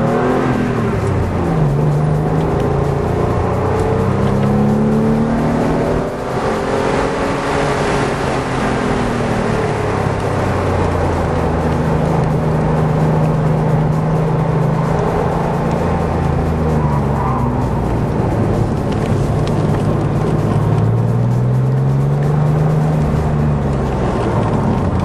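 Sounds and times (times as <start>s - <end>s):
car engine revving: 0.0s - 25.0s
wind and tyre noise: 0.0s - 25.0s.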